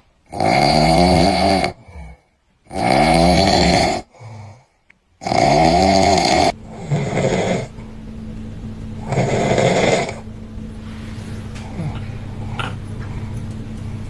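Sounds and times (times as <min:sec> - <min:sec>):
man snoring loudly: 0:00.3 - 0:07.8, 0:09.0 - 0:13.4.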